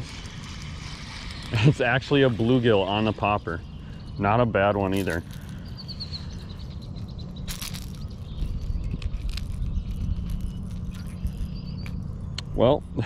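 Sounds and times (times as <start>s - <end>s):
bird chirping: 0.2s - 12.6s.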